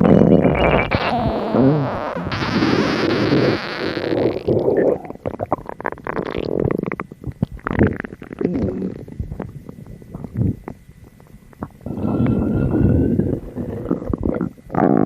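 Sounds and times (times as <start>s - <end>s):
stomach grumbling: 0.0s - 15.0s.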